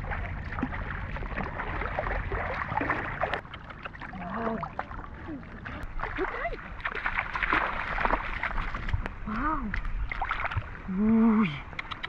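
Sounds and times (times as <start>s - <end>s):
small splashes and clicks: 0.0s - 10.7s, 11.7s - 12.0s
steady low rumble: 0.0s - 11.7s
water sloshing and gurgling: 0.0s - 11.9s.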